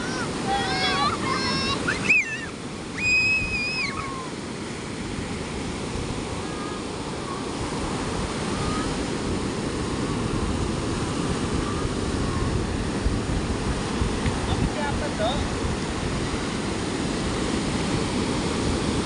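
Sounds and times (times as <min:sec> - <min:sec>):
ocean surf washing on sand: 0:00.0 - 0:19.0.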